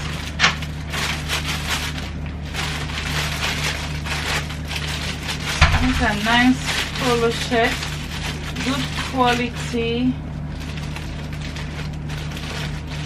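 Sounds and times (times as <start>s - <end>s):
plastic packaging crinkling: 0.0s - 13.0s
steady low hum: 0.0s - 13.0s.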